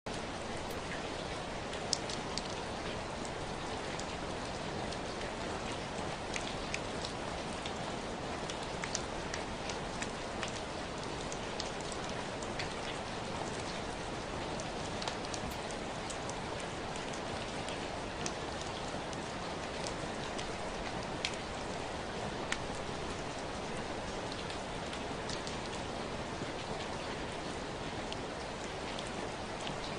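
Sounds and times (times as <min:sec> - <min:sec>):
raindrops ticking on a surface: 0:00.1 - 0:29.9
steady rain hiss: 0:00.1 - 0:29.9.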